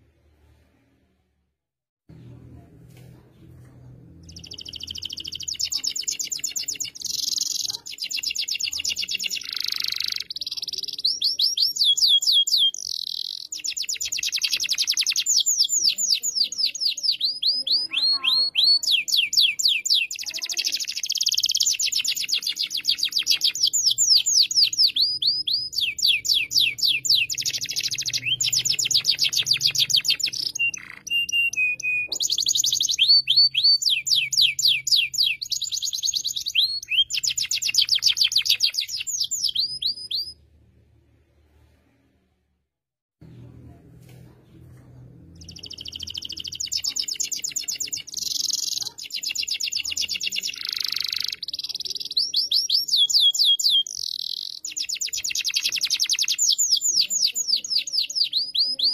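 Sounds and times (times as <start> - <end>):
canary singing: 4.2 - 40.4, 45.4 - 58.9.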